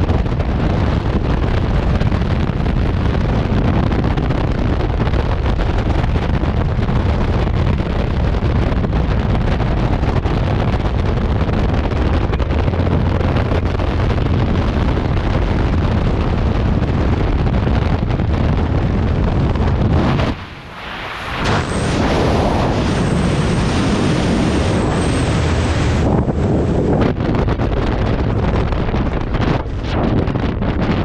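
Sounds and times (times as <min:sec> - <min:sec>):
wind blasting over microphone: 0:00.0 - 0:31.0.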